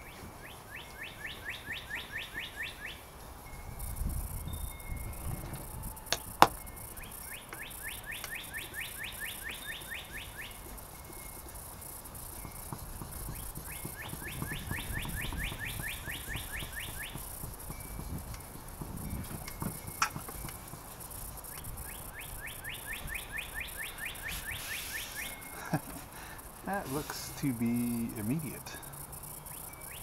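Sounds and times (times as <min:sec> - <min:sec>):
songbird chirping: 0:00.0 - 0:30.0.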